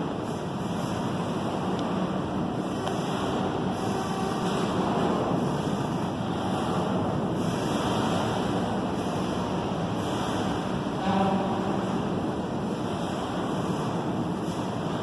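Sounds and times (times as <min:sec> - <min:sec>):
steady rushing rumble: 0:00.0 - 0:15.0.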